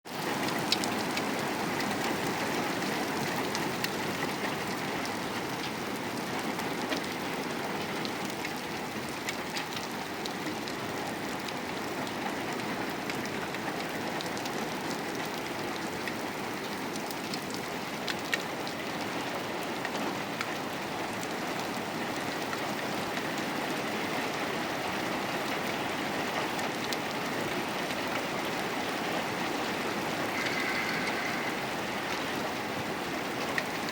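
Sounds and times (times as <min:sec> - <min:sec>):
steady rain hiss: 0:00.2 - 0:33.9.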